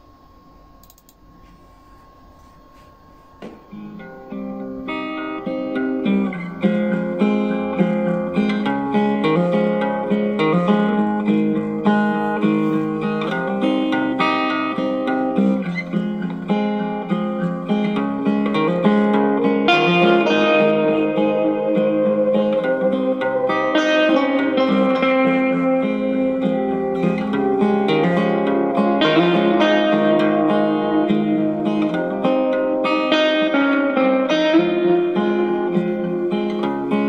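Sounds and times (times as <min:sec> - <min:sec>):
guitar through small amplifier: 0:02.2 - 0:37.0.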